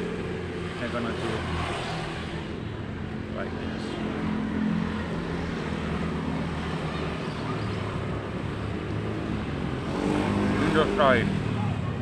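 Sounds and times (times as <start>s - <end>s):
traffic engine hum: 0.0s - 12.0s.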